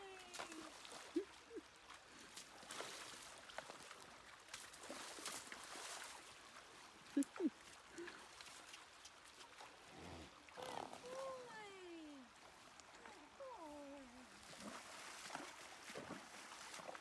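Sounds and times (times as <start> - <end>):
horse hooves splashing in water: 0.0 - 17.0.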